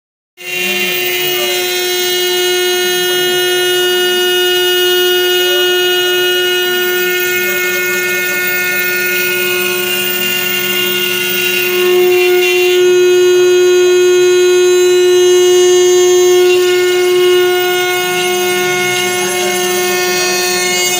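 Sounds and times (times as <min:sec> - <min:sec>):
motor whines gliding in pitch: 0:00.4 - 0:20.9
router spindle whine: 0:00.4 - 0:20.9.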